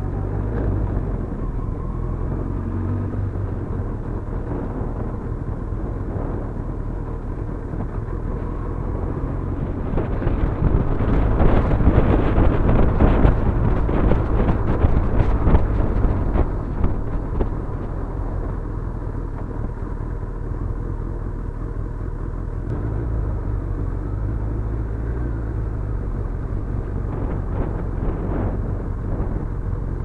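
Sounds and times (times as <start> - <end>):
gusty wind noise on microphone: 0.0 - 20.3, 22.6 - 30.0
low motorcycle engine rumble: 0.0 - 30.0.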